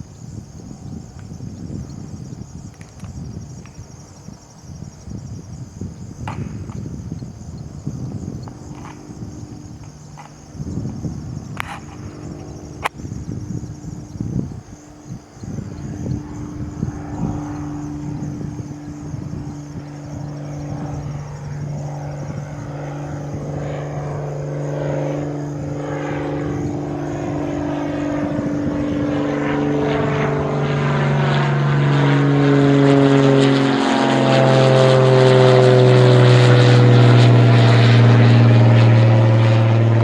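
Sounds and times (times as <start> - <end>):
aircraft engine hum: 0.0 - 40.0.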